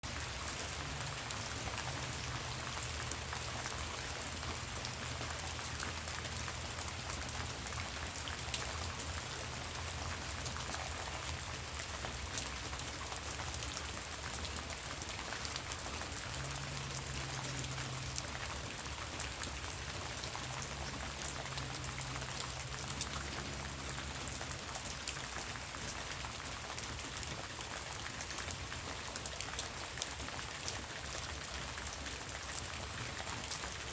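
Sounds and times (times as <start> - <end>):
gentle rain falling: 0.0 - 33.9.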